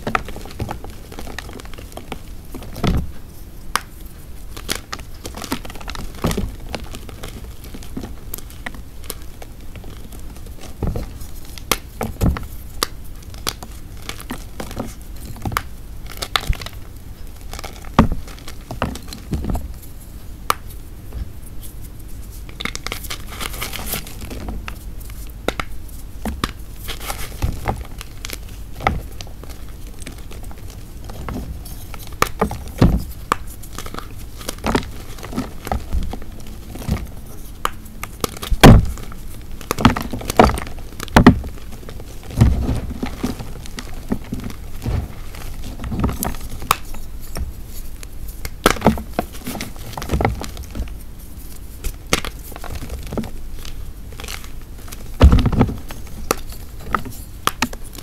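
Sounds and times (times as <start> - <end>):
chalk crunching and crumbling: 0.0 - 58.0.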